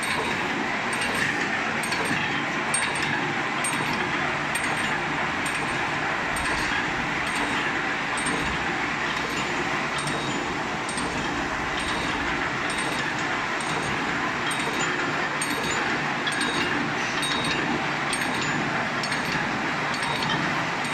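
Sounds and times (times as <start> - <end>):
welding machine metallic clatter: 0.0 - 20.9.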